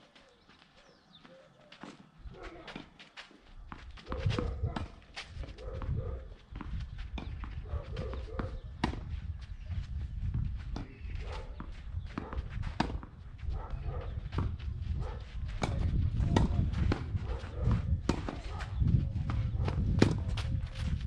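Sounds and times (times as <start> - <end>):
wind rumbling on microphone: 3.8 - 21.0.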